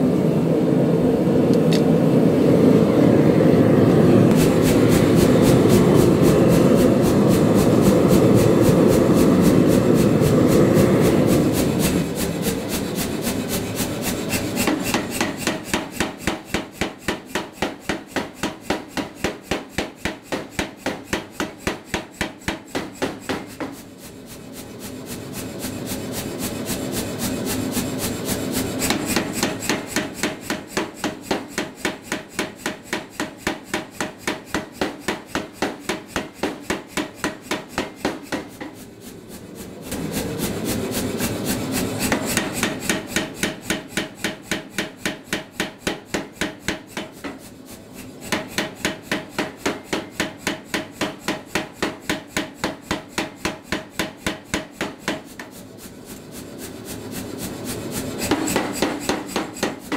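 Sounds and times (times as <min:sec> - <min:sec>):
power hammer striking hot steel: 0:04.3 - 0:23.9, 0:24.5 - 0:55.5, 0:57.6 - 0:59.9.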